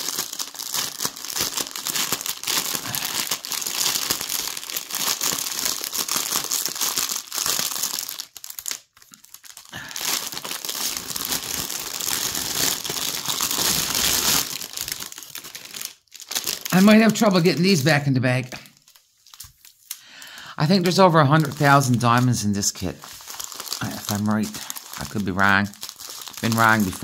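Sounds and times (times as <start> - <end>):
plastic wrap crinkling: 0.0 - 27.0.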